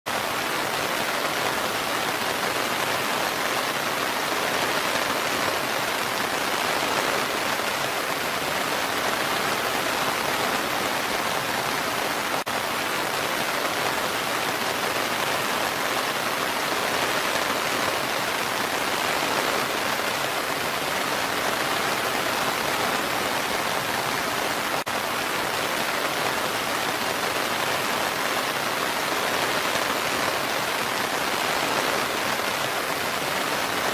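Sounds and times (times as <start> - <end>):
rain on foliage: 0.1 - 33.9
waterfall rushing: 0.1 - 33.9.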